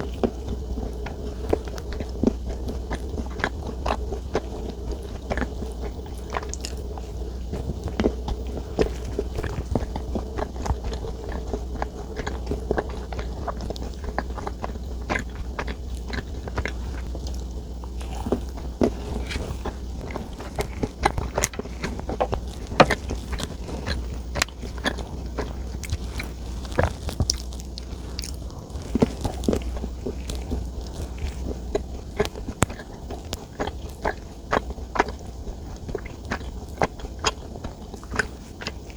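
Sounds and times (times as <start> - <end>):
chewing and mouth smacks: 0.0 - 38.9
soft crunches: 0.0 - 38.9
steady low hum: 0.0 - 38.9.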